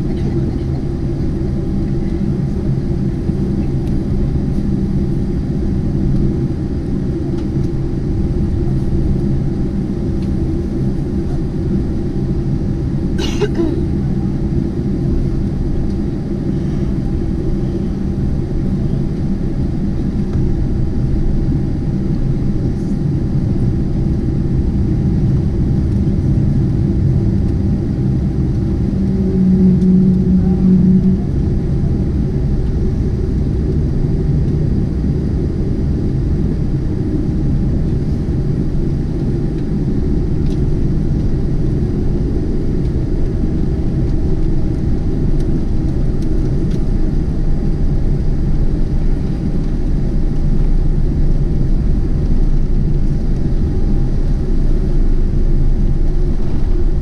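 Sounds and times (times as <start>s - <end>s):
aircraft cabin rumble: 0.0s - 57.0s
engine and air conditioning hum: 0.0s - 57.0s.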